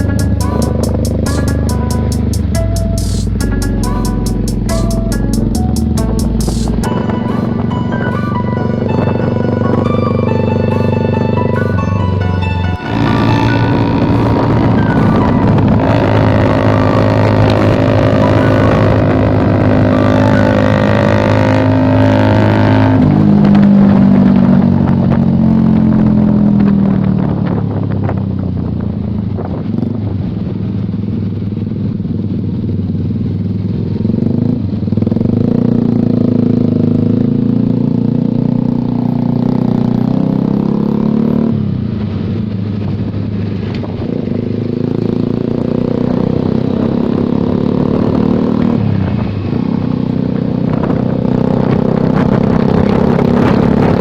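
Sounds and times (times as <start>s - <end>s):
motorcycle engine revving: 0.0s - 28.5s, 32.6s - 54.0s.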